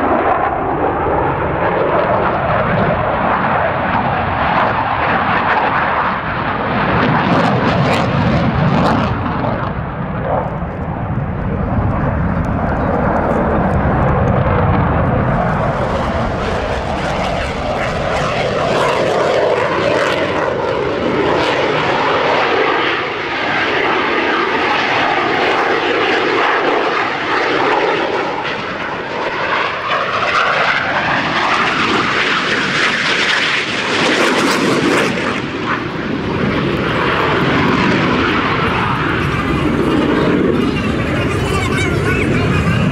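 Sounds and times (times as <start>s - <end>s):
jet engine rumble and hiss: 0.0s - 42.9s.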